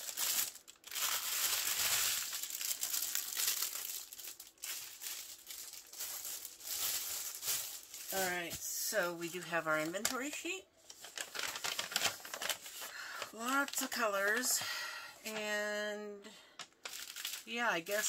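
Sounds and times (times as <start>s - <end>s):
plastic bags crinkling: 0.0s - 15.6s, 16.4s - 18.0s.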